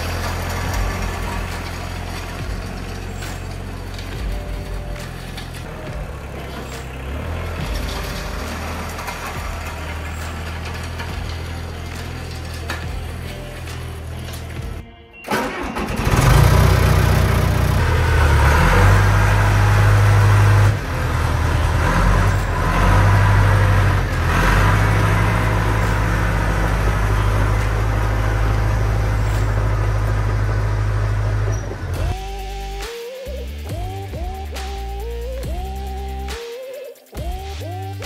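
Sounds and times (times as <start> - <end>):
diesel engine starting and revving: 0.0 - 36.5, 37.2 - 38.0.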